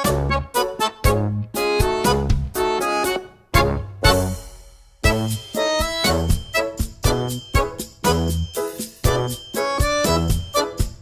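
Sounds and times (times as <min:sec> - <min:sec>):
upbeat swing music: 0:00.0 - 0:11.0.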